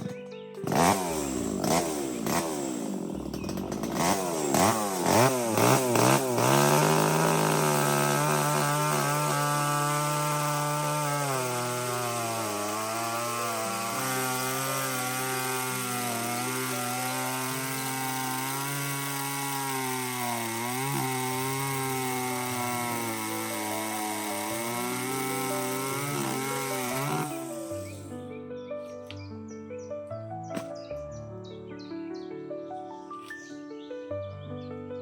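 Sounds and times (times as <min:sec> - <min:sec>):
small engine running: 0:00.0 - 0:28.1.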